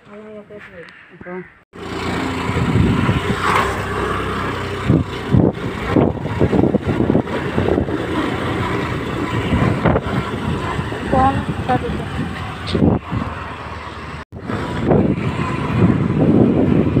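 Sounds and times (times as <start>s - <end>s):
vehicle engine rumble: 1.7s - 17.0s.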